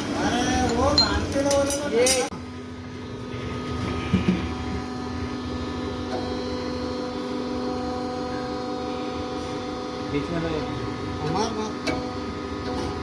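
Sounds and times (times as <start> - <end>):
workshop machinery motor humming: 0.0 - 13.0.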